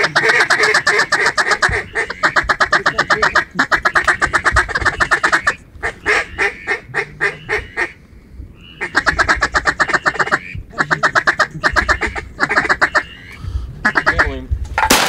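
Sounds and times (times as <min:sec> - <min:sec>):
duck call quacking: 0:00.0 - 0:08.0, 0:08.7 - 0:14.4.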